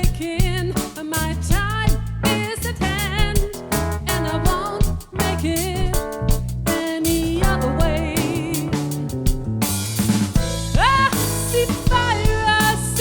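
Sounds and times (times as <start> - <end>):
drum kit: 0.0 - 13.0
live funk-soul band: 0.0 - 13.0
steady low bass: 0.0 - 13.0.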